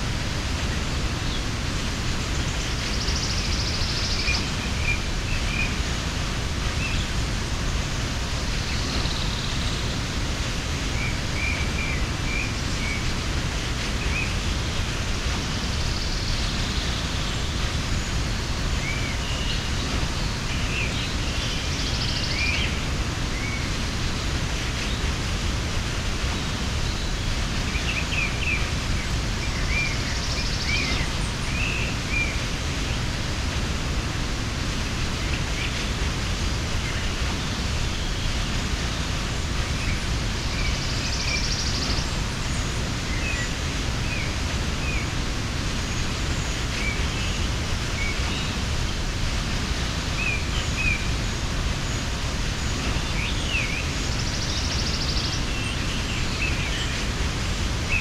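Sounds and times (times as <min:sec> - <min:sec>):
waterfall rushing: 0:00.0 - 0:58.0
small birds chirping: 0:00.4 - 0:58.0.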